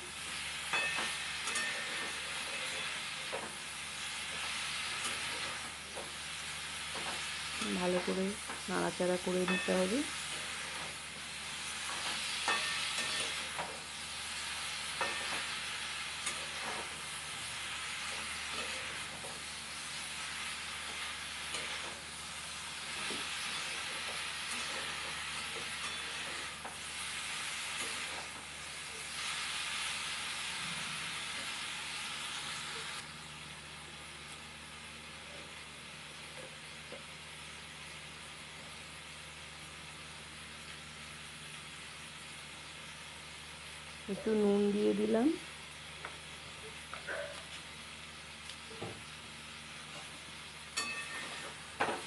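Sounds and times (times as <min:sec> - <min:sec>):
fruit pieces sizzling in hot oil: 0:00.0 - 0:52.0.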